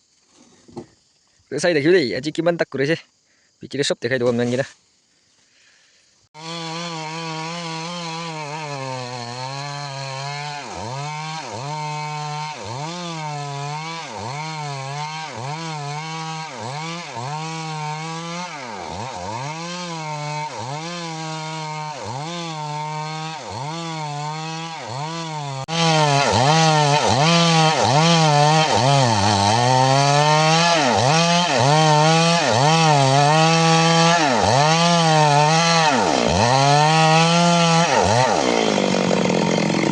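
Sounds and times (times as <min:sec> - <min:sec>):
chainsaw cutting wood: 0:06.4 - 0:39.9.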